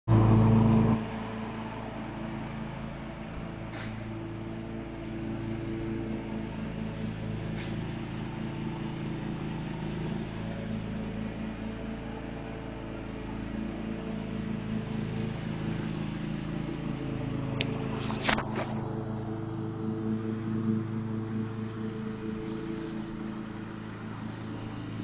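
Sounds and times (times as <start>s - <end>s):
riding lawn mower engine: 0.0s - 25.0s.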